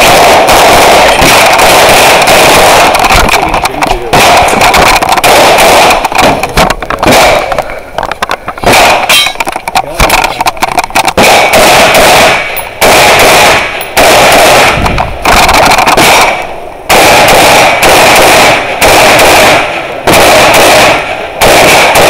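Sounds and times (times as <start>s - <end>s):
rifle shots: 0.0s - 22.0s.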